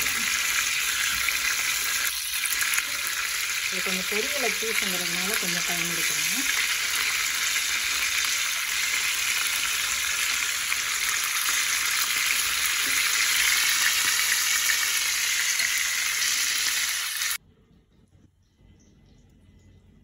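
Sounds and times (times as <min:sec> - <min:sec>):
chicken sizzling in frying pan: 0:00.0 - 0:17.4.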